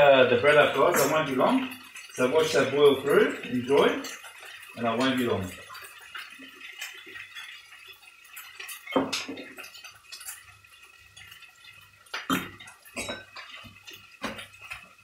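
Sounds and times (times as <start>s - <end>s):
sauce bubbling and popping: 0.0s - 15.0s.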